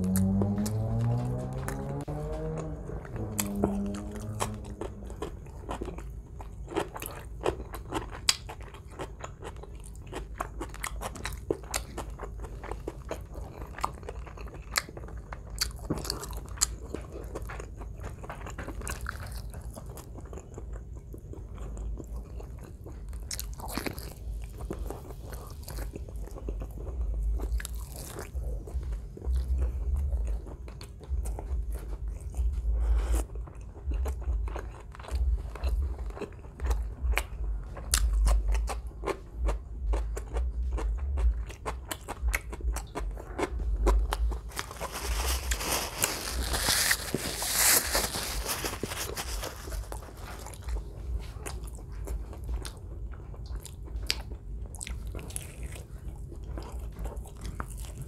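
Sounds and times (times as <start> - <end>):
chewing and biting chicken: 0.0 - 58.0.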